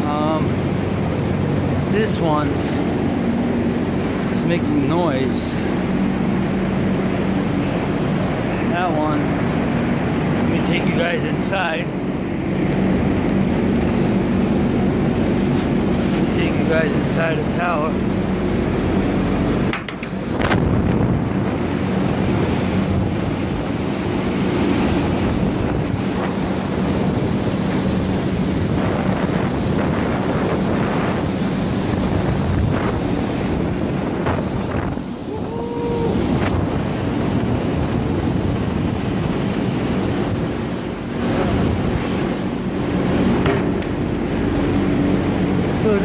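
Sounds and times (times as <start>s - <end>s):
fan drive hum: 0.0s - 46.0s.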